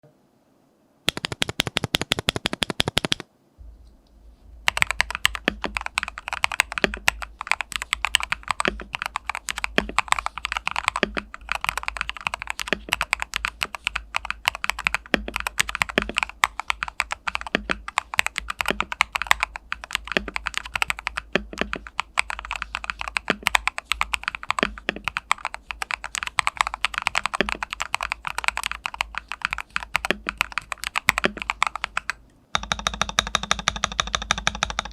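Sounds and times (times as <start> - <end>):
mechanical keyboard typing: 1.1 - 3.3, 4.7 - 34.9.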